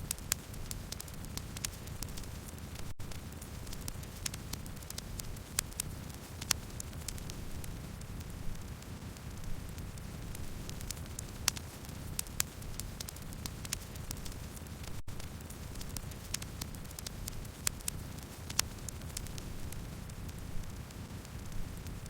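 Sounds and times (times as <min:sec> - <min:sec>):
low rumble of flames: 0:00.0 - 0:22.0
wood fire pops and snaps: 0:00.0 - 0:22.0.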